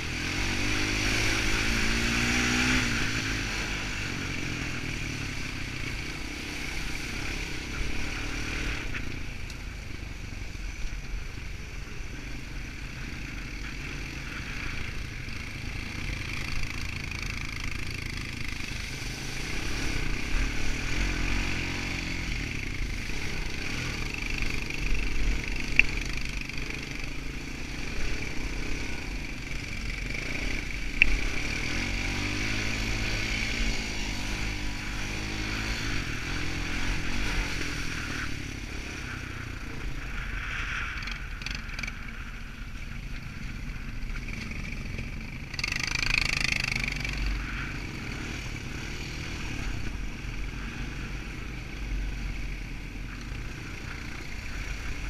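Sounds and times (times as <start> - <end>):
quad bike engine revving: 0.0 - 9.2, 12.6 - 42.4, 43.4 - 55.0.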